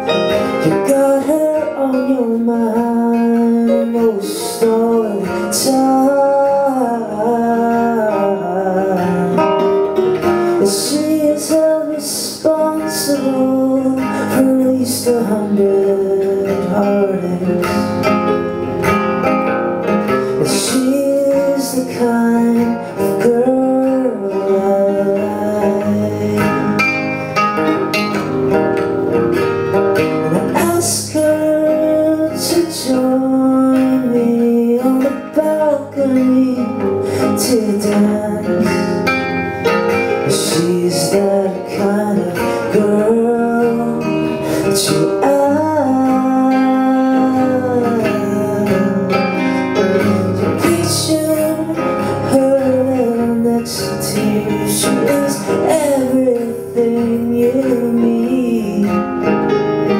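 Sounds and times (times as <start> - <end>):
acoustic guitars strummed: 0.0 - 59.9
keyboard accompaniment: 0.0 - 59.9
person singing: 0.0 - 59.9.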